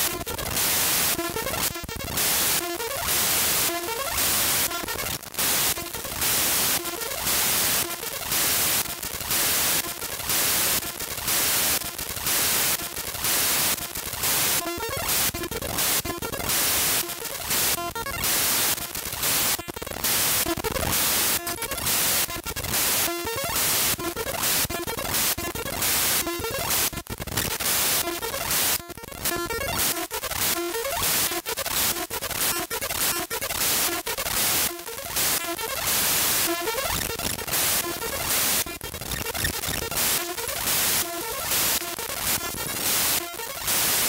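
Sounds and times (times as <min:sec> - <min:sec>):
buzzy glitchy tones: 0:00.0 - 0:44.0
harsh digital static: 0:00.0 - 0:44.0.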